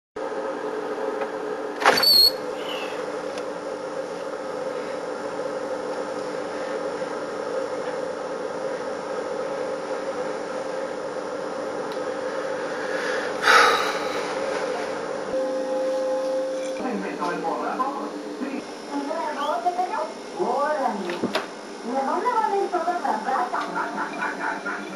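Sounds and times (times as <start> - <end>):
mechanical hum with tones: 0.2 - 24.9.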